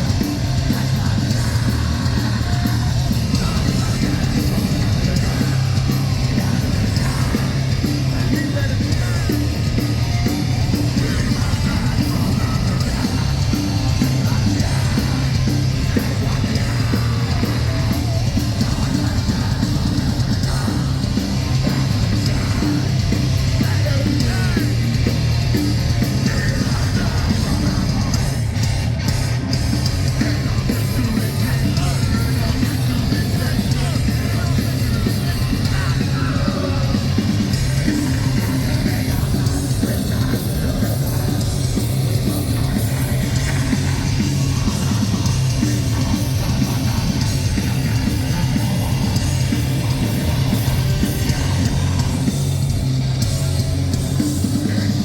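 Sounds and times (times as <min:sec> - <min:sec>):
bass guitar: 0:00.0 - 0:55.0
distorted guitars: 0:00.0 - 0:55.0
pounding drums: 0:00.0 - 0:55.0.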